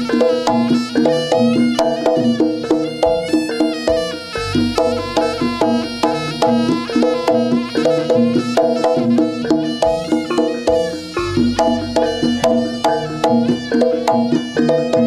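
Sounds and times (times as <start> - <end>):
drums: 0.0 - 15.0
metallophones ringing: 0.0 - 15.0.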